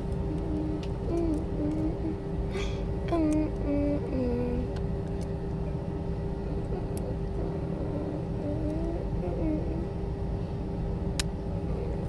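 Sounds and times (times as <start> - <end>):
constant hum: 0.0 - 12.0
low airplane cabin rumble: 0.0 - 12.0.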